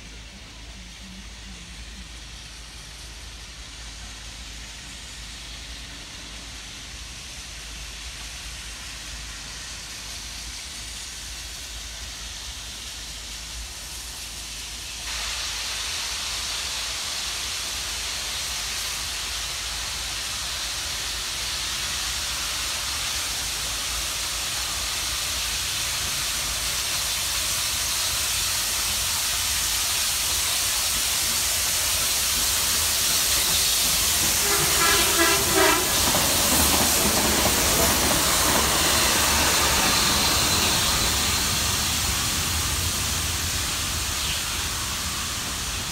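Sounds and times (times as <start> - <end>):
steam train passing: 0.0 - 45.9.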